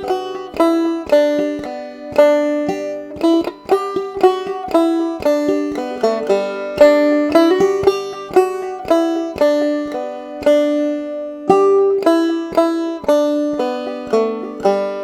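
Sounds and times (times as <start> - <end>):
banjo plucked melody: 0.0 - 15.0.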